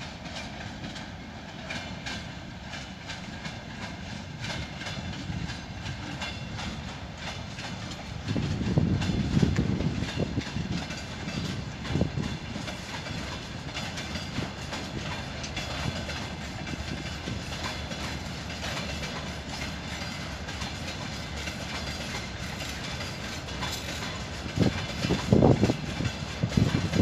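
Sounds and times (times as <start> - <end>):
train wheels rumbling on rails: 0.0 - 27.0
wheels clacking over rail joints: 0.0 - 27.0.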